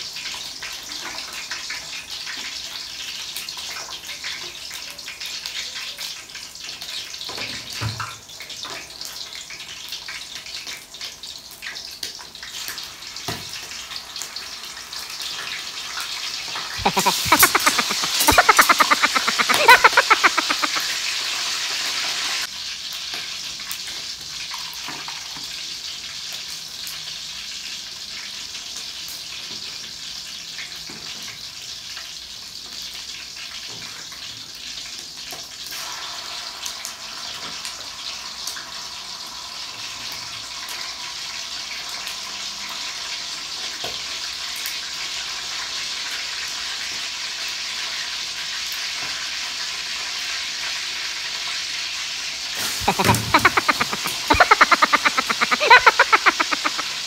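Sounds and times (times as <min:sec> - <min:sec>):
chicken sizzling in oil: 0:00.0 - 0:57.0.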